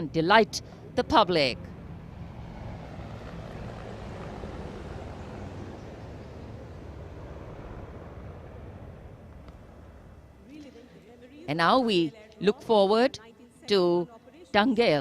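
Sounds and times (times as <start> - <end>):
military aircraft flying over: 0.0 - 15.0.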